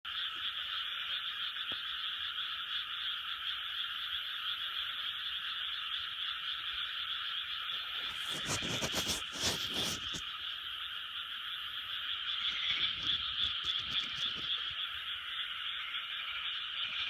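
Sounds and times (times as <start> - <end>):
chorus of frogs calling: 0.1 - 17.0.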